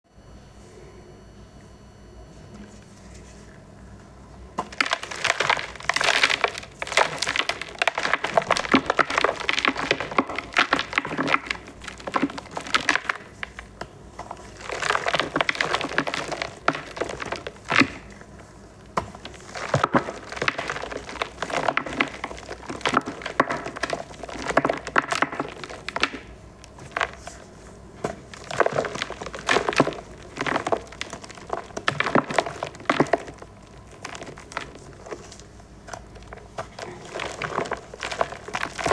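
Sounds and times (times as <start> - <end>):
chalk balls crunching: 4.6 - 38.9.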